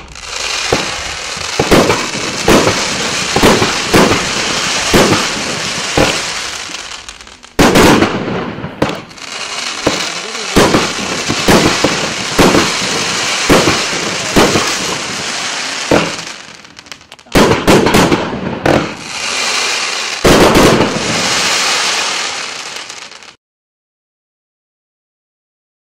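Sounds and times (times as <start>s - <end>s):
firework crackling: 0.0s - 23.4s
firework shots bursting: 0.0s - 23.4s
firework volleys of bangs: 0.0s - 23.4s.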